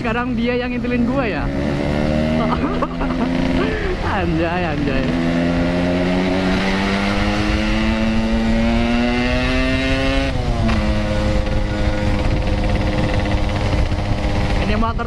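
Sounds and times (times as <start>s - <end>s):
motorcycle accelerating: 0.0s - 15.0s.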